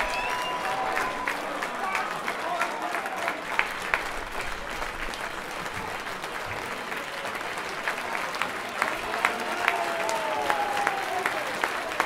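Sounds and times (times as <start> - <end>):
crowd applauding: 0.0 - 12.0
individual hand claps: 0.0 - 12.0.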